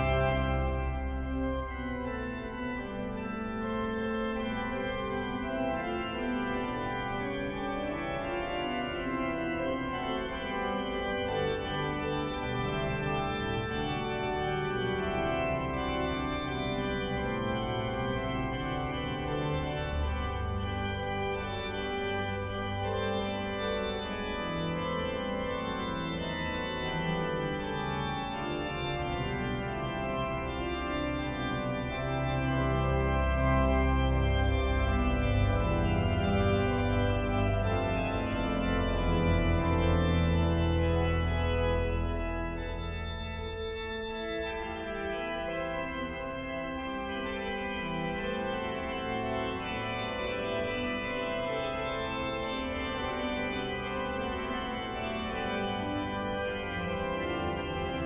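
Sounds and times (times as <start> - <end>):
pipe organ playing: 0.0 - 58.0.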